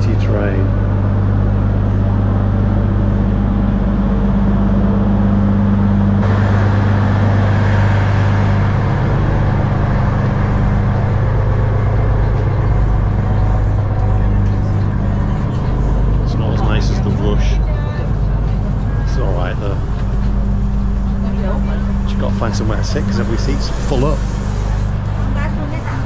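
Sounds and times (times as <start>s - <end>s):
train engines humming: 0.0s - 26.0s.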